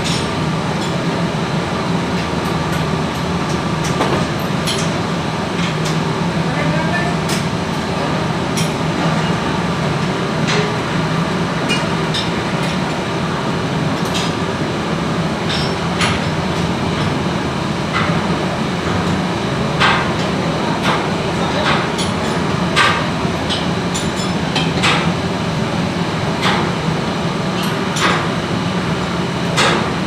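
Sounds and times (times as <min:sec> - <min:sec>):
machinery hum: 0:00.0 - 0:30.0.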